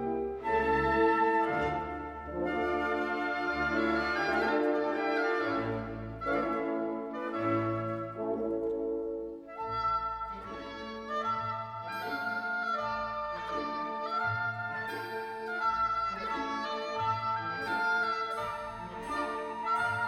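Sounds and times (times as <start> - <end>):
orchestral music with brass: 0.0 - 20.0.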